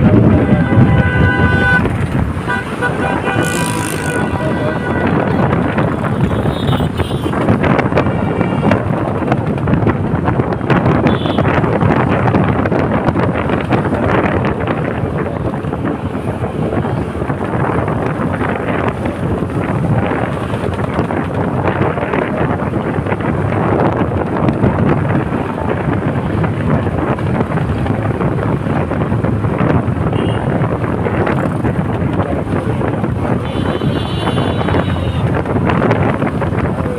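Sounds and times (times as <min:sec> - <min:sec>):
vehicle and road noise: 0:00.0 - 0:36.9
wind rushing over microphone: 0:00.0 - 0:36.9.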